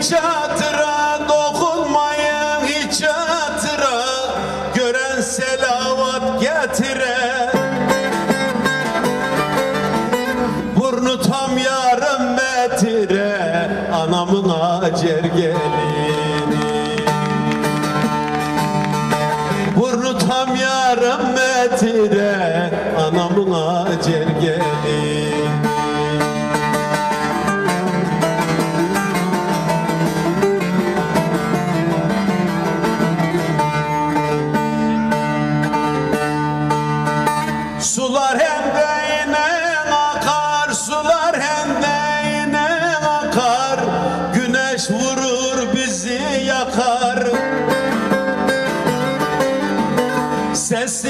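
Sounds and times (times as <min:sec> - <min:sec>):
long-necked lute plucked and strummed: 0:00.0 - 0:51.0
man singing folk song: 0:00.0 - 0:51.0.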